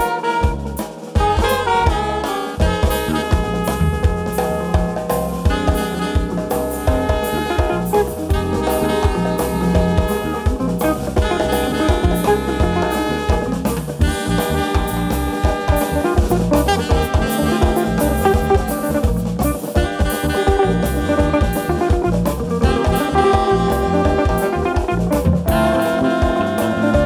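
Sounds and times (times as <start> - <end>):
alto saxophone: 0.0 - 27.0
drum kit: 0.0 - 27.0
guitar: 0.0 - 27.0
trumpet: 0.0 - 27.0.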